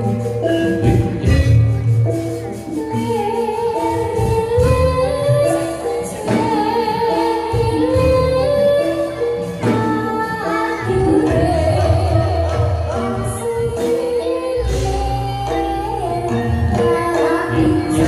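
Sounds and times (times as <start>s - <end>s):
drums: 0.0s - 18.0s
metallophone notes: 0.0s - 18.0s
woman singing: 2.5s - 18.0s.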